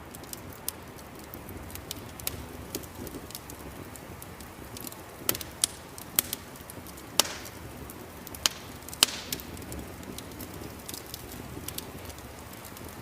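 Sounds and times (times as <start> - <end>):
fire hissing: 0.0 - 13.0
wood fire crackling: 0.0 - 13.0.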